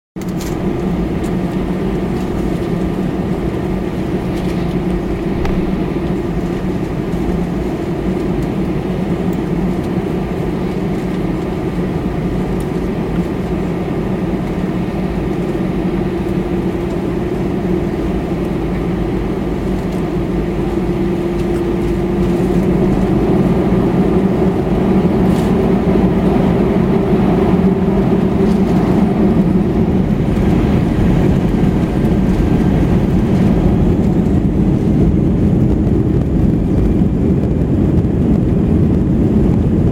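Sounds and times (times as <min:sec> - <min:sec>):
jet engine cabin rumble: 0:00.2 - 0:39.9.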